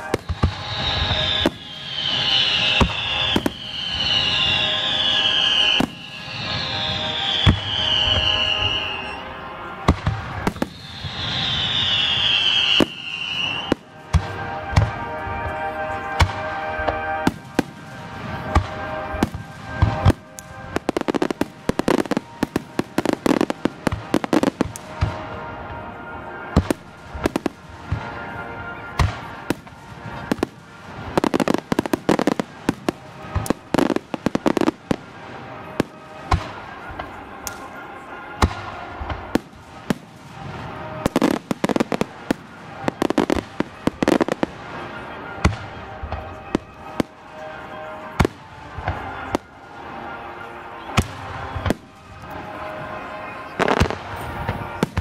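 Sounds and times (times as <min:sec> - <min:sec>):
firework bangs and crackles: 0:00.0 - 0:55.0.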